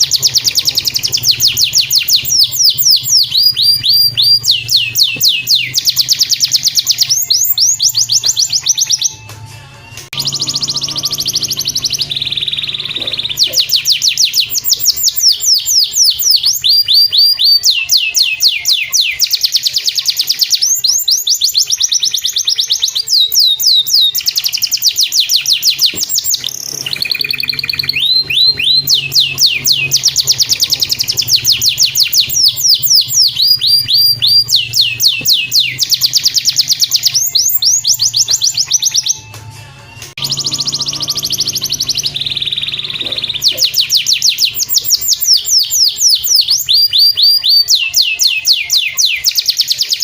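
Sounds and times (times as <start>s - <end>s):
canary singing trills: 0.0s - 50.0s.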